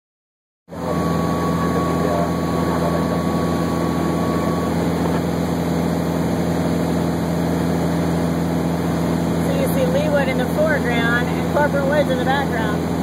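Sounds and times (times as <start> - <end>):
aircraft engines droning in cabin: 0.7 - 13.0.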